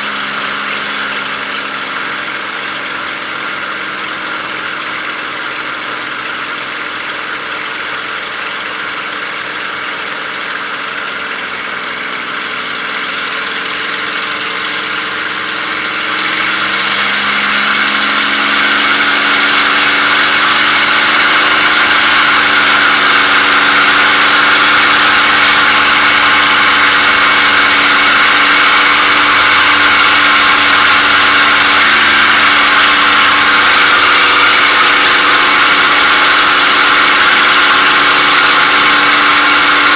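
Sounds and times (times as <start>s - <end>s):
aircraft engine throttling up: 0.0s - 39.9s.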